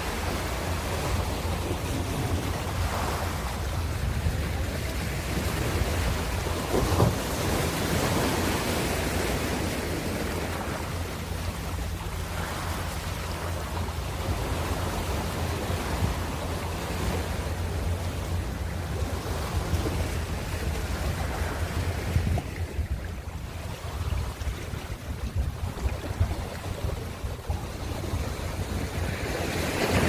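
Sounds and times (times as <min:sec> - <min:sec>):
ocean waves washing on shore: 0:00.0 - 0:30.0
wave breaking: 0:00.0 - 0:30.0.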